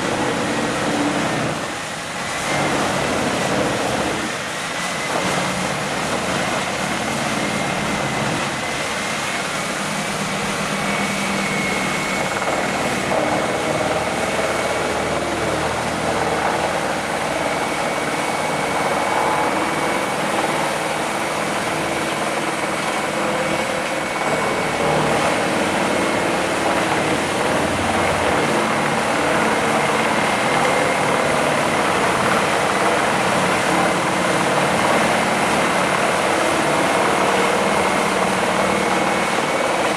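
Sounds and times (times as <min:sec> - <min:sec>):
high mechanical whine: 0:00.0 - 0:39.9
wood chipper running: 0:00.0 - 0:39.9.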